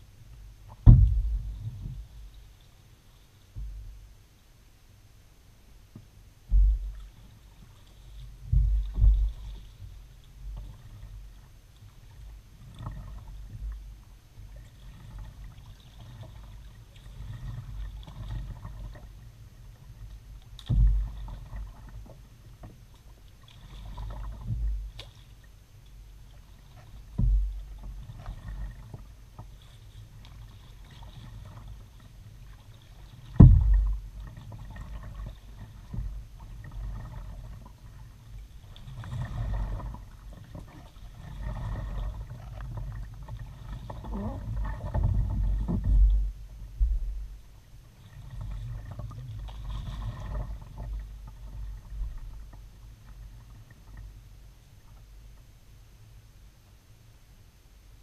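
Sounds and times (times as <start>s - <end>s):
low thumps through hull: 0.3s - 2.4s, 3.5s - 4.1s, 5.8s - 11.4s, 12.1s - 22.9s, 23.7s - 25.0s, 25.9s - 55.5s
paddle blades dipping and dripping: 5.9s - 55.5s.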